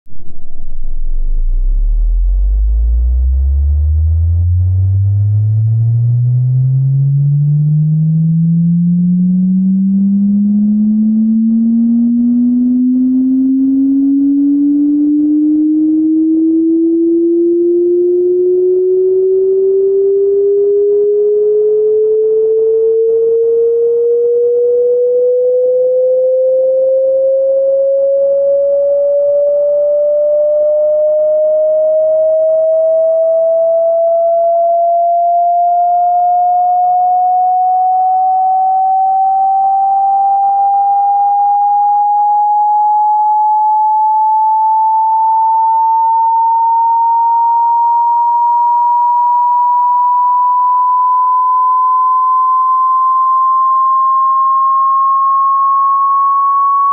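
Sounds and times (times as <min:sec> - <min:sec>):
rising sine tone sweep: 0:00.0 - 0:56.9.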